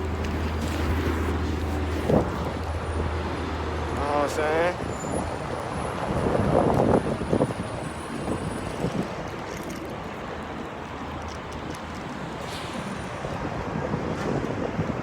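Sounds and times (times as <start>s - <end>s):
road rush: 0.0s - 15.0s
wind buffeting microphone: 0.0s - 15.0s.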